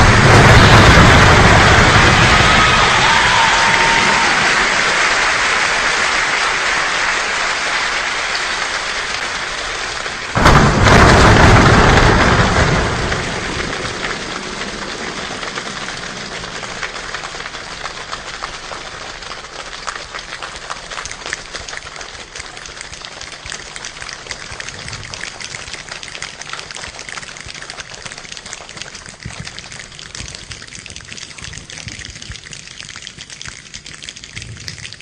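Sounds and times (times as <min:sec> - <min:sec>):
choir body percussion rain: 0:00.0 - 0:35.0.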